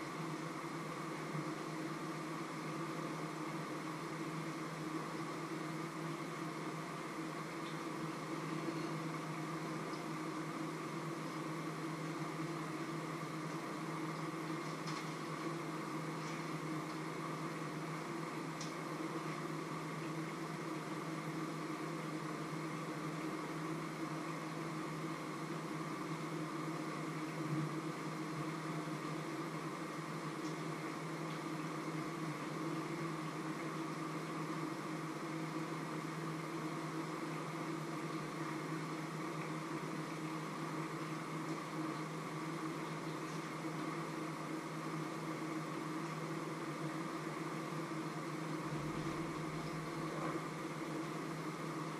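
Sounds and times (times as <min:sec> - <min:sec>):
machine hum: 0:00.0 - 0:51.9.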